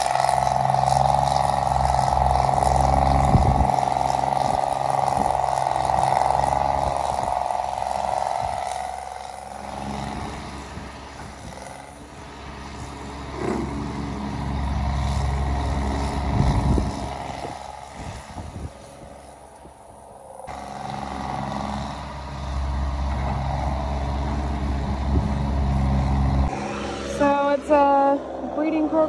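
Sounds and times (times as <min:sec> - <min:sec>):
excavator engine with high whine: 0:00.0 - 0:29.0.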